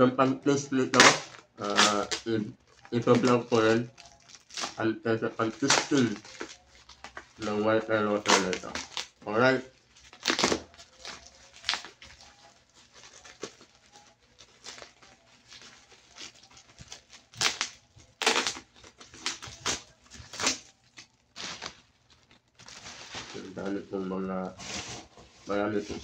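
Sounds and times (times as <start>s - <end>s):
bubble wrap crinkling: 0.4s - 26.0s.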